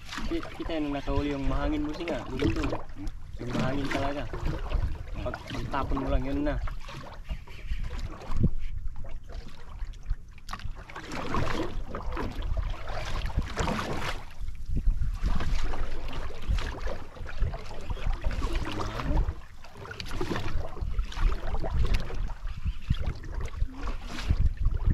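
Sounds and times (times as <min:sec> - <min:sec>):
water splashing against boat hull: 0:00.0 - 0:24.9
wind buffeting microphone: 0:00.0 - 0:24.9.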